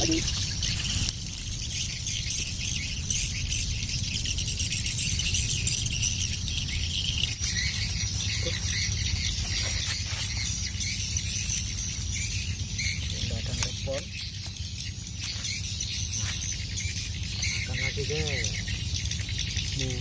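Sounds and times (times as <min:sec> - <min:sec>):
bird calls: 0:00.0 - 0:20.0
insects chirping: 0:00.0 - 0:20.0
low rumble: 0:00.0 - 0:20.0.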